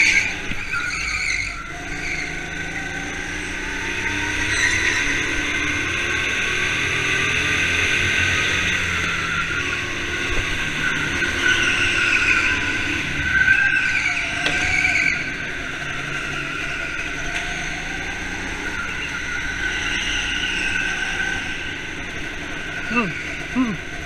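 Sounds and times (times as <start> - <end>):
go-kart engine running hard: 0.0 - 24.0.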